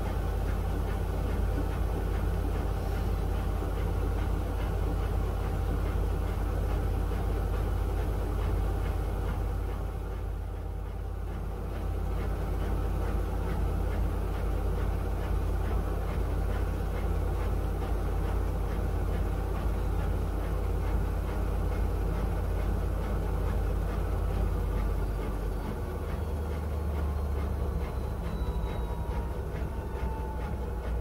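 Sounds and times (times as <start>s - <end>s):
washing machine running: 0.0s - 31.0s.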